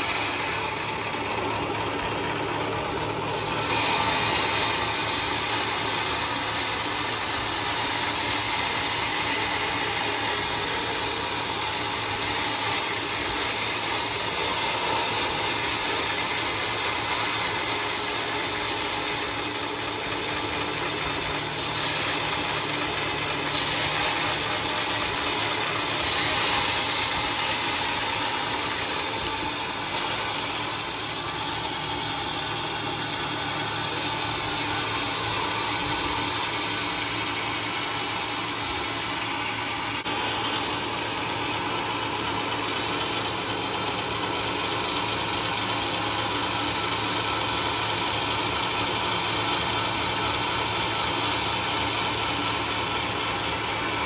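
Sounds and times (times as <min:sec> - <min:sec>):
band sawmill running: 0:00.0 - 0:54.0.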